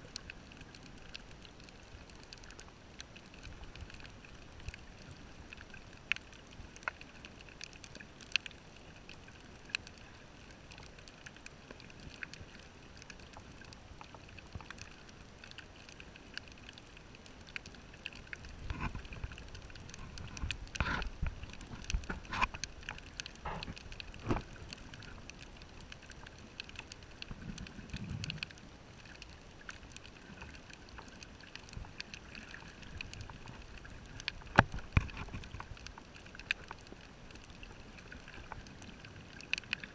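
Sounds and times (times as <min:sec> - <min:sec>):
faint steady underwater hiss: 0:00.0 - 0:39.9.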